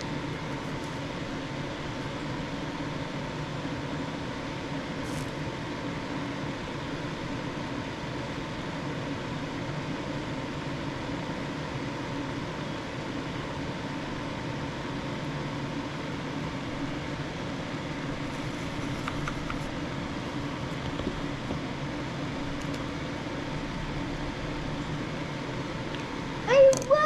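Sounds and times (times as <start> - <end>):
fan-like mechanical hum: 0.0 - 27.0.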